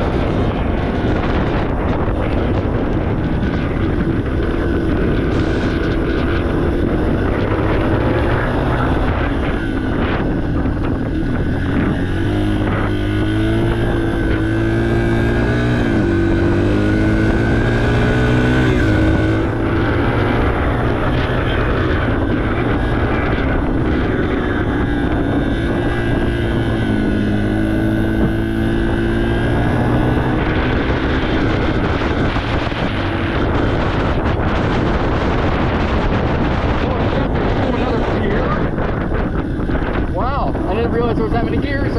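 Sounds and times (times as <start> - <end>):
motorcycle engine revving while riding: 0.0 - 41.9
wind rumbling on microphone: 0.0 - 41.9.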